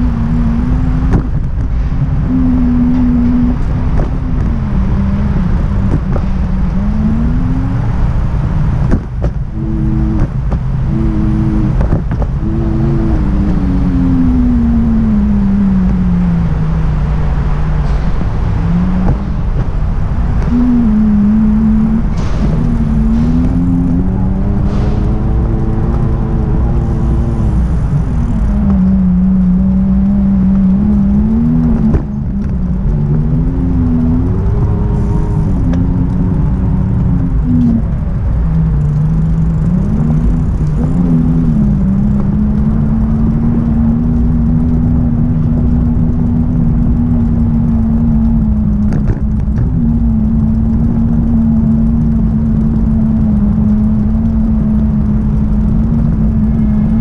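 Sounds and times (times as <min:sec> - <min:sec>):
low rumble of rolling and wind: 0:00.0 - 0:57.0.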